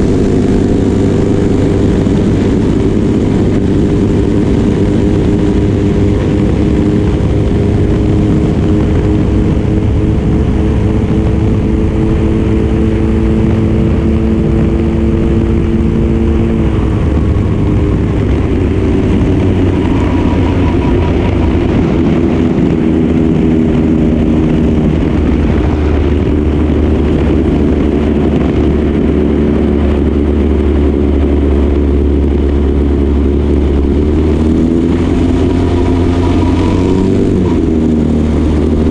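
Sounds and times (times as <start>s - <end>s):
single-cylinder engine running: 0.0s - 38.9s
wind noise: 0.0s - 38.9s.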